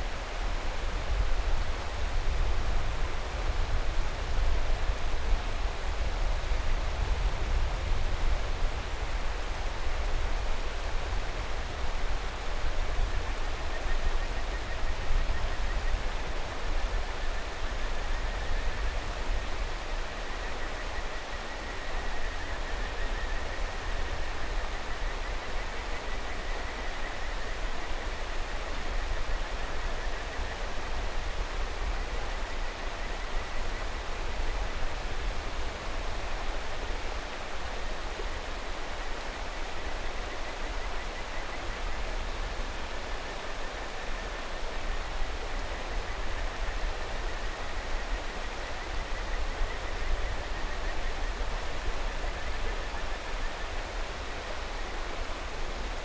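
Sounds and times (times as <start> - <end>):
mountain river rushing: 0.0 - 56.0.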